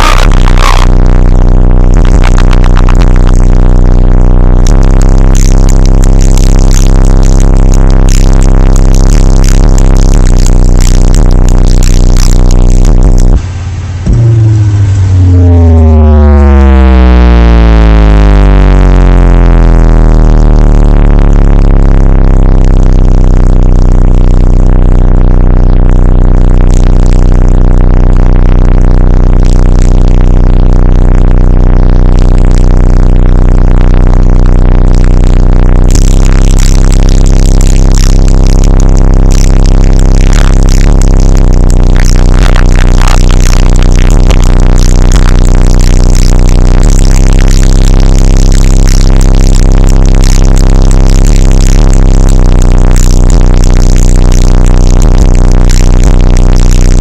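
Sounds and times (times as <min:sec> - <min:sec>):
deep subwoofer bass tone: 0:00.0 - 0:57.0.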